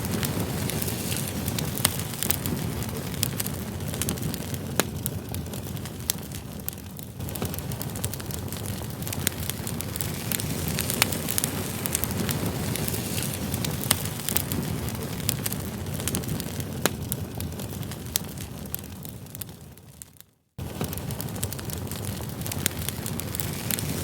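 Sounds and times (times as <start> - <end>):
campfire flame rushing: 0.0 - 20.0, 20.6 - 24.0
burning logs crackling: 0.0 - 24.0.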